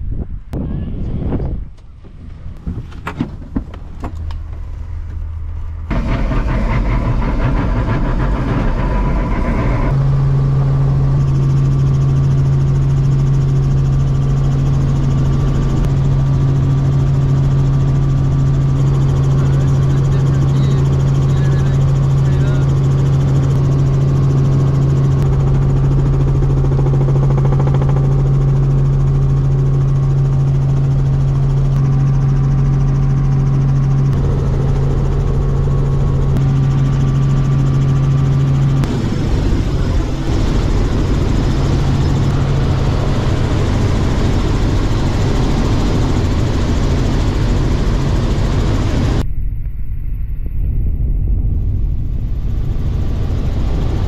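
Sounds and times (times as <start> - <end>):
helicopter rotor and engine noise: 0.6 - 49.3, 51.2 - 54.0.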